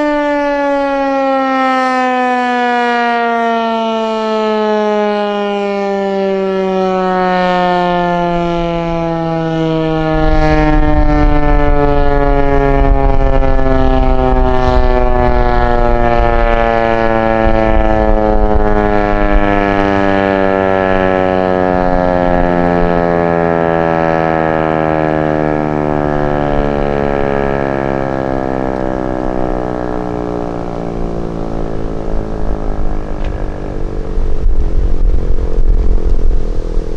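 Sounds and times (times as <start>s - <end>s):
tornado siren winding down: 0.0s - 36.9s.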